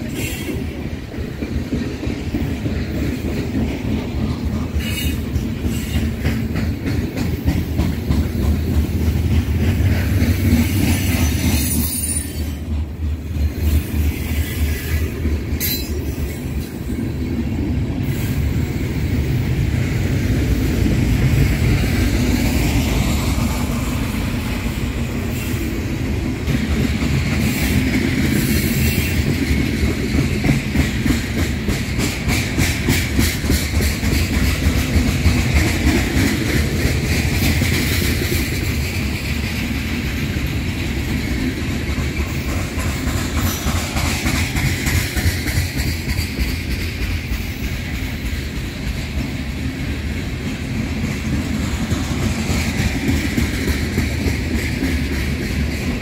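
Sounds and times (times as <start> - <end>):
freight train rumble: 0.0 - 56.0.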